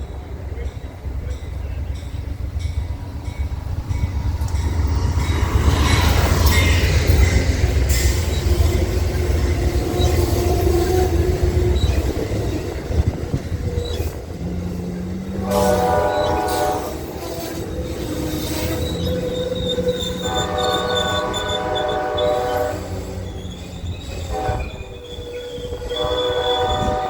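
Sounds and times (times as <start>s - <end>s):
steel wheels squealing: 0.0s - 27.0s
train wheels rumbling on rails: 0.0s - 27.0s.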